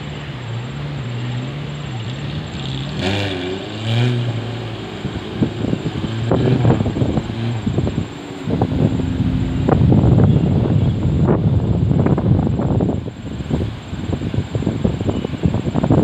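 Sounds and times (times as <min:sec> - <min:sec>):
off-road engine running: 0:00.0 - 0:16.0.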